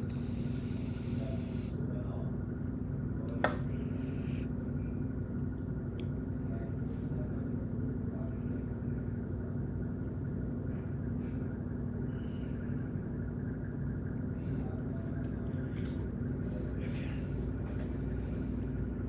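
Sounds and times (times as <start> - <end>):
low background hum and rumble: 0.0 - 19.0.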